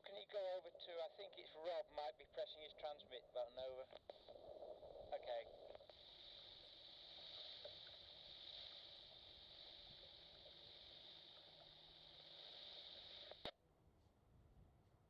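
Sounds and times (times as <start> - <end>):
radio static hiss: 0.0 - 13.5.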